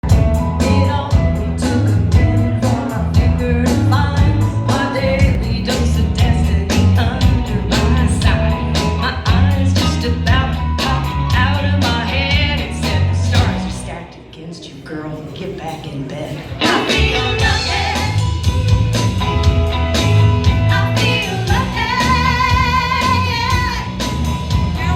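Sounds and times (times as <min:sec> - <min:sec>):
upbeat rock and roll music: 0:00.0 - 0:13.9, 0:16.4 - 0:24.9.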